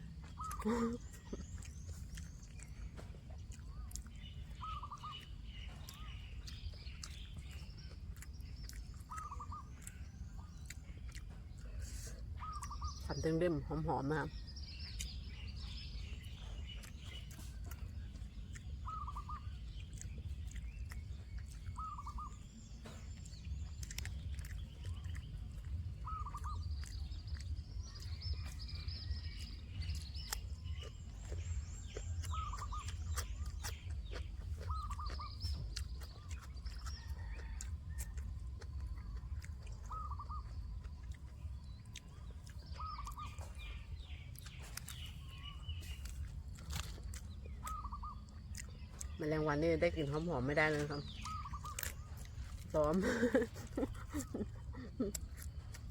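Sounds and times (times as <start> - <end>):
higher bird chirping: 0.0 - 55.9.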